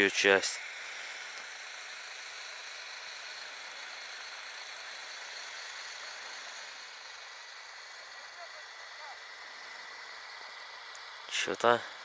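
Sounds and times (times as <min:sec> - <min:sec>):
distant small engine drone: 0:00.0 - 0:12.0.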